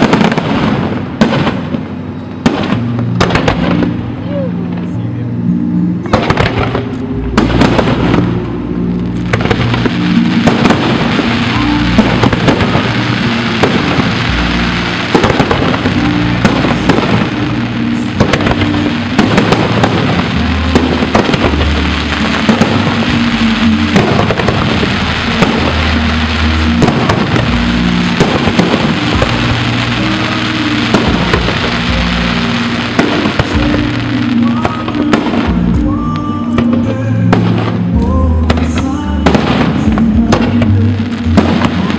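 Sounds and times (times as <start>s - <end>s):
fireworks bangs: 0.0s - 5.0s, 6.0s - 41.9s
fireworks crackling hiss: 0.0s - 5.0s, 6.1s - 41.9s
music with low notes: 0.0s - 41.9s.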